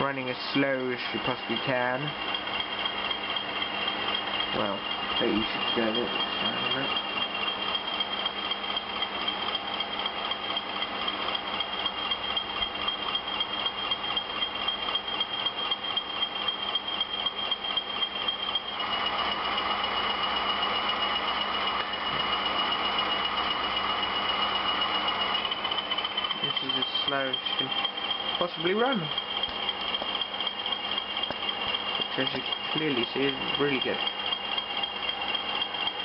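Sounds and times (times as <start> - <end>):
model train diesel engine sound: 0.0 - 36.0
steady high whine: 0.0 - 36.0.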